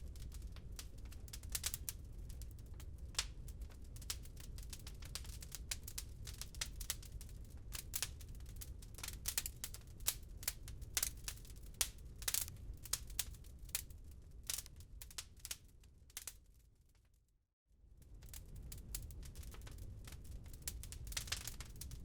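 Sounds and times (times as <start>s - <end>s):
wood fire crackling: 0.0s - 16.7s, 18.0s - 22.0s.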